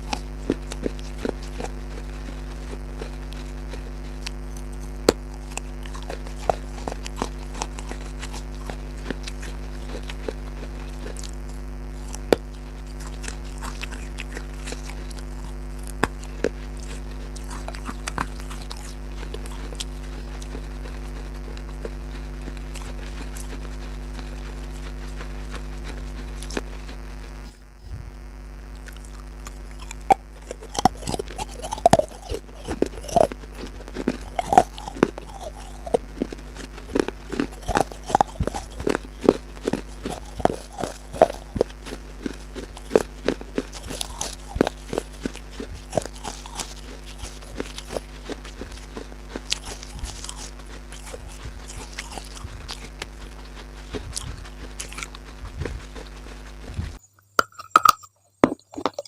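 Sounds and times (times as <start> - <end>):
chewing crisp food: 0.0 - 59.0
steady low hum: 0.0 - 59.0.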